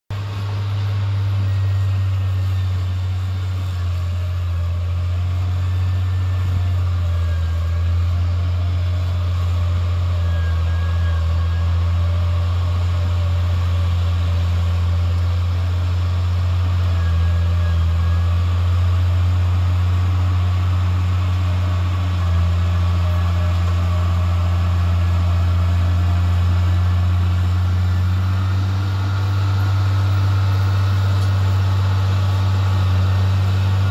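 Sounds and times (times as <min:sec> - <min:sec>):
diesel engine droning: 0:00.1 - 0:33.9.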